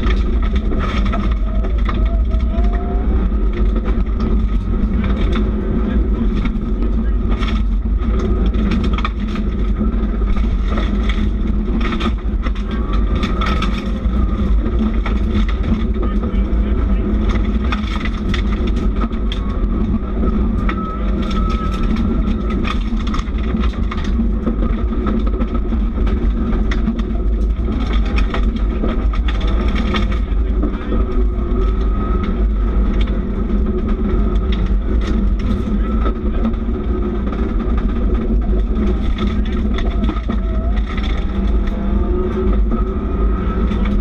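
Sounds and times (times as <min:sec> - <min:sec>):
car engine running hard: 0:00.0 - 0:44.0
gravel ticking against car: 0:00.0 - 0:44.0.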